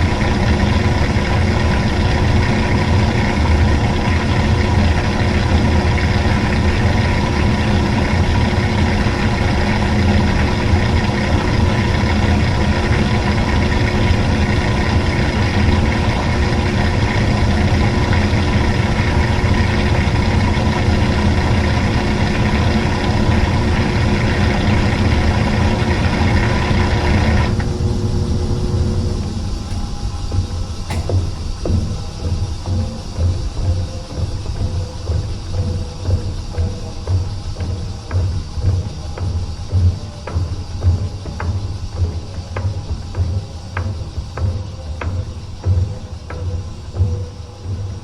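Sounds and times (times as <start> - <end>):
washing machine running: 0.0 - 48.0.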